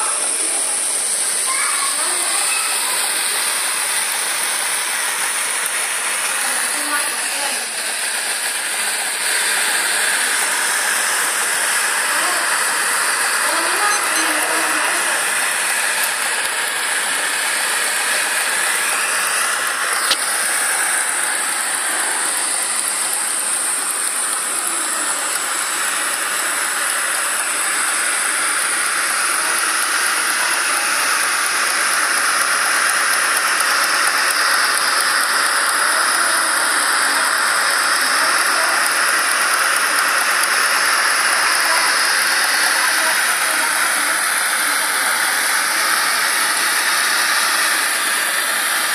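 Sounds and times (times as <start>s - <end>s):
gas burner flame hissing: 0.0s - 48.9s.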